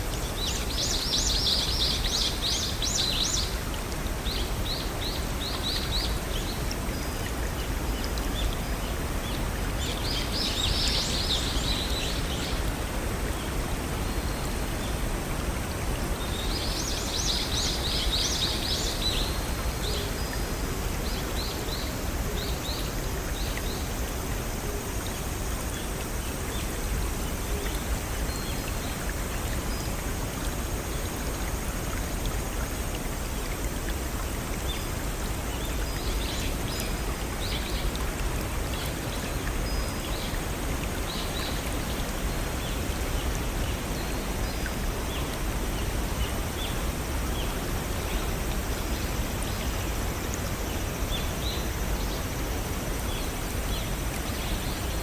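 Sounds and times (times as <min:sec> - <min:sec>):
waterfall and brook flowing: 0:00.0 - 0:55.0.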